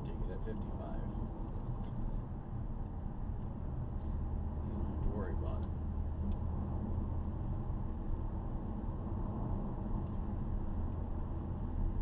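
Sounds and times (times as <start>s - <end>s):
car engine low drone: 0.0s - 12.0s
road noise: 0.0s - 12.0s.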